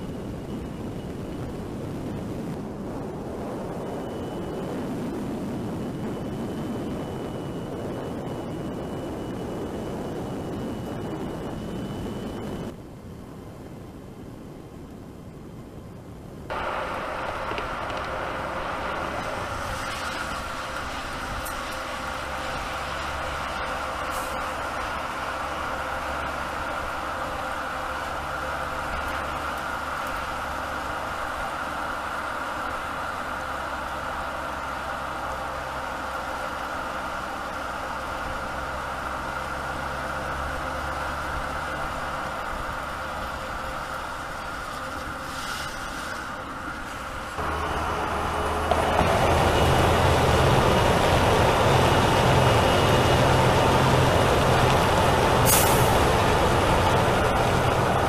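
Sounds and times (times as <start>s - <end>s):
truck road and tyre noise: 0.0s - 58.0s.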